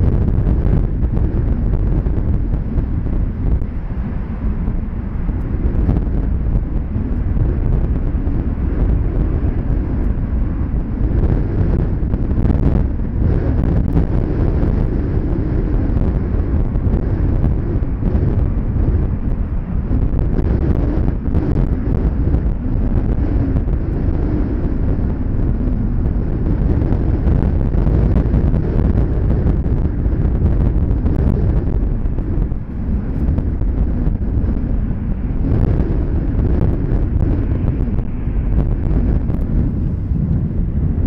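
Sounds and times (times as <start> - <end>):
jet engines rumbling: 0.0 - 41.0
wind buffeting microphone: 0.0 - 41.0.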